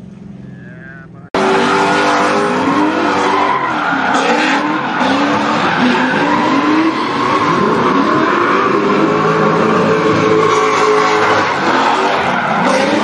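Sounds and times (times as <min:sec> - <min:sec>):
car engines revving: 0:00.0 - 0:13.0
tyres squealing and skidding: 0:01.4 - 0:13.0.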